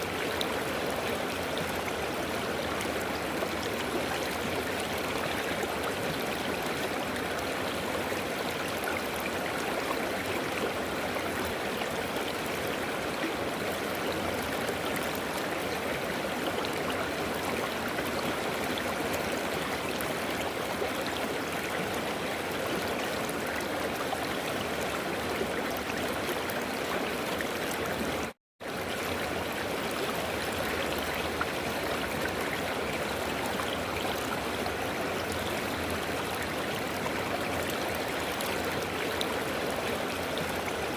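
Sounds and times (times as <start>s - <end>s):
river water rushing and gurgling: 0.0s - 40.9s.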